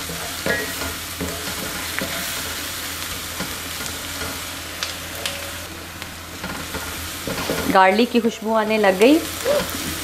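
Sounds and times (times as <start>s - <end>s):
onion sizzling in oil: 0.0s - 10.0s.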